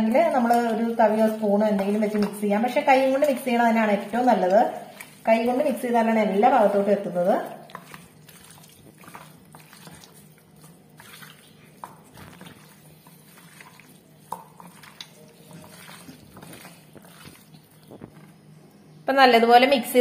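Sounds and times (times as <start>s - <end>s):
wet squishing of kneading: 0.0s - 18.6s
low steady hum: 0.0s - 20.0s.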